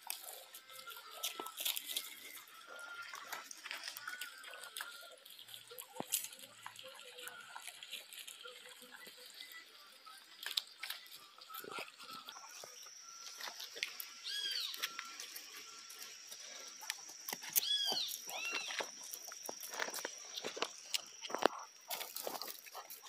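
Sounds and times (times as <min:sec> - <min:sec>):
duck feet clicking on dirt: 0:00.0 - 0:09.2, 0:10.3 - 0:23.0.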